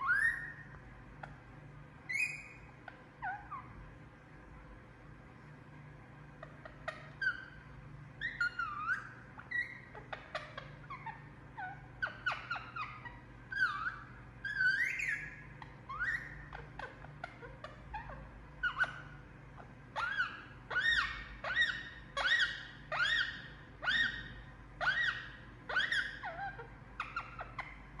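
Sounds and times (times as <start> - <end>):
parakeet chirps and whistles: 0.0 - 0.7, 2.1 - 3.8, 6.4 - 28.0.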